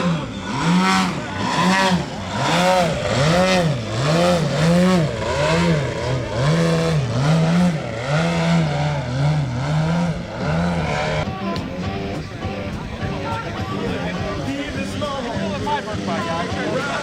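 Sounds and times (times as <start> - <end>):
model plane engine: 0.0 - 17.0.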